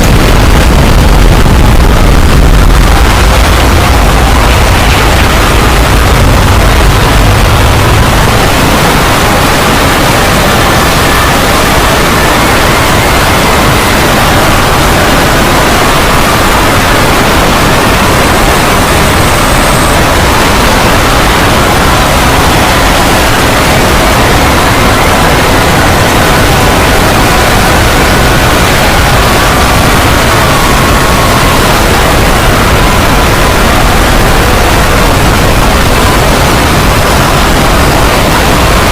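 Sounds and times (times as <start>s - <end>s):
loud steady rushing noise: 0.0s - 38.9s.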